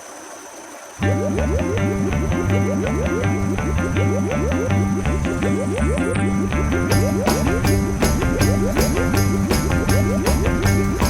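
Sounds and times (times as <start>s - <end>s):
background music with short notes: 1.0s - 11.0s.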